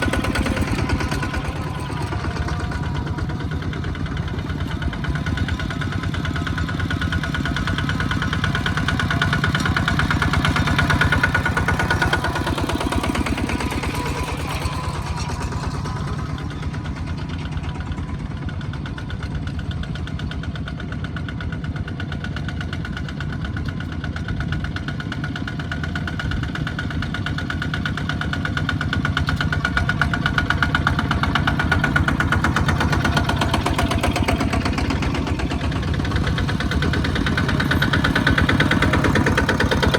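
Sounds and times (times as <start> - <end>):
small tractor engines running: 0.0 - 39.9.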